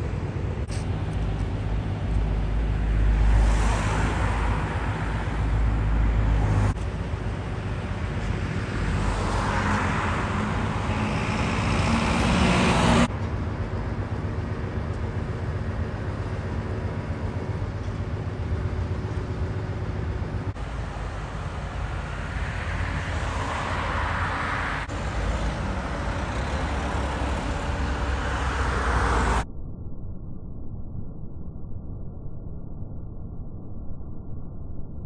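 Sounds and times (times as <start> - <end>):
heavy diesel engines rumbling: 0.0 - 29.4.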